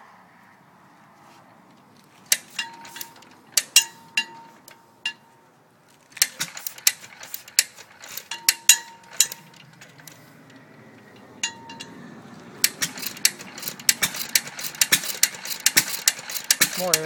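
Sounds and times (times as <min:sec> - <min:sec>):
engine mechanism clicking: 0:02.3 - 0:05.2, 0:06.1 - 0:17.0.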